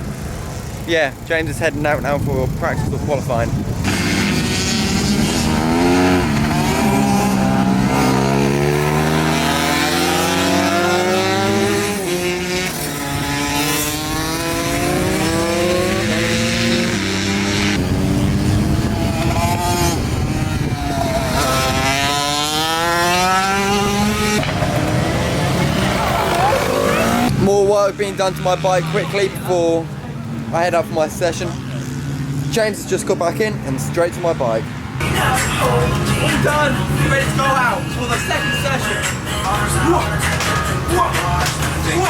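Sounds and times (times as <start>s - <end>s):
pit bike engines revving: 0.0s - 42.0s.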